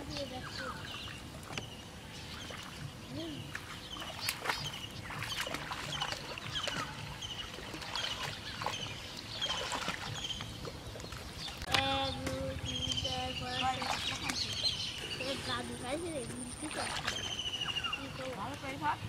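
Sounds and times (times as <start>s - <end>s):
legs wading through water: 0.0s - 19.0s
small birds chirping: 0.0s - 19.0s.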